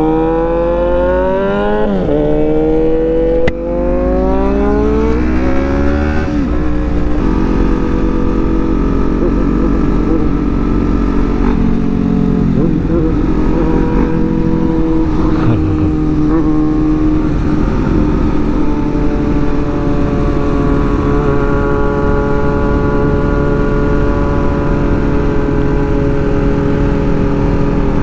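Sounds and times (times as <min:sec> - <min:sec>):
motorcycle engine and exhaust: 0:00.0 - 0:28.0.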